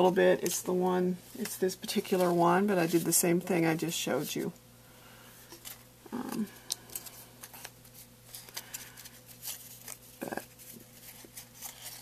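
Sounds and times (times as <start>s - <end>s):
craft petals rustling by hand: 0.0s - 4.5s, 5.4s - 12.0s.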